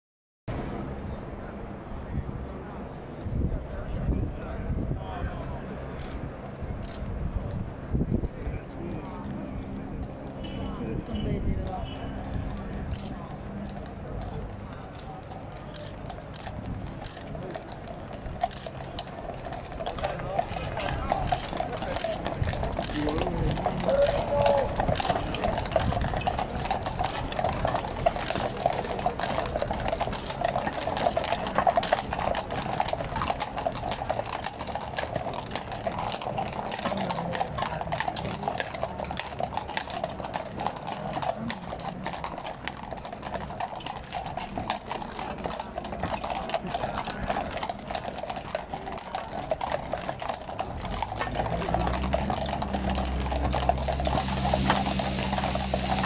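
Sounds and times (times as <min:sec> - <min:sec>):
horse hooves on stone paving: 0:05.2 - 0:56.0.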